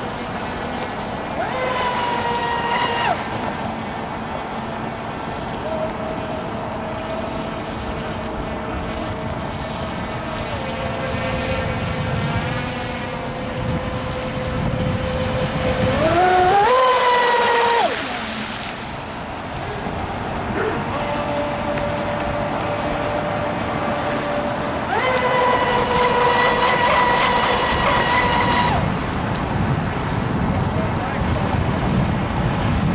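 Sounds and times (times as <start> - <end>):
toy speedboat motor whine: 0.0 - 32.9
water rushing: 0.0 - 32.9
wind: 0.0 - 32.9.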